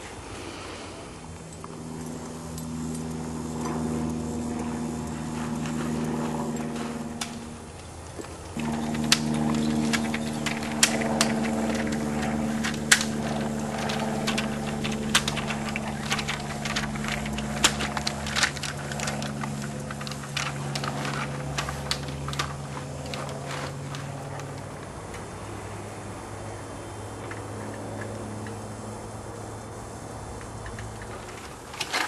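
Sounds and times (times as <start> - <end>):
truck engine running: 1.3 - 31.8.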